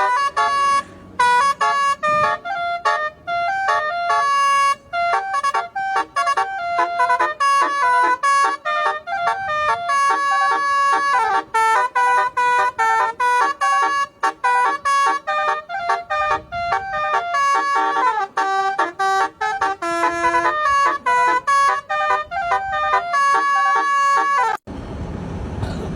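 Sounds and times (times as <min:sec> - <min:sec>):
bus horn playing a melody: 0:00.0 - 0:24.7.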